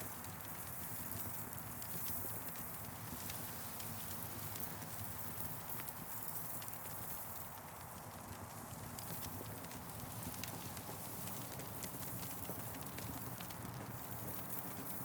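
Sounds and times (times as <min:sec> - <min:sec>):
campfire crackling and popping: 0:01.5 - 0:15.0.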